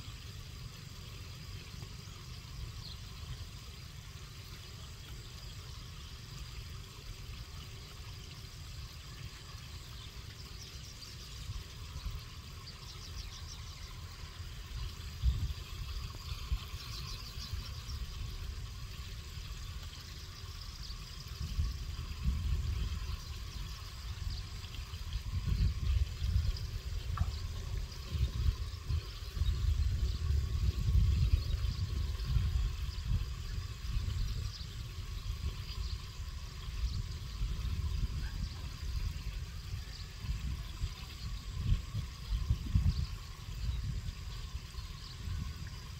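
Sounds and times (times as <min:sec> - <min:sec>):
small birds chirping: 0:00.0 - 0:45.9
wind buffeting microphone: 0:09.0 - 0:45.9.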